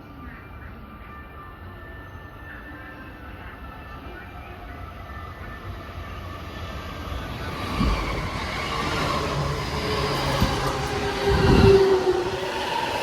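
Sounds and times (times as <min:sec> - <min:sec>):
electric train rumble and rail noise: 0:00.0 - 0:13.0.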